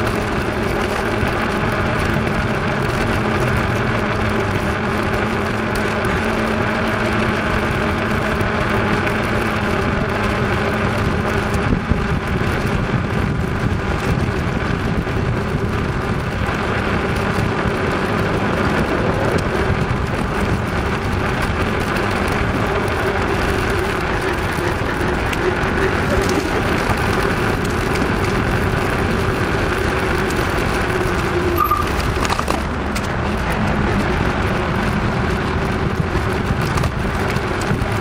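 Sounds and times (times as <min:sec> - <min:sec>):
bicycle tyres humming on pavement: 0:00.0 - 0:38.0.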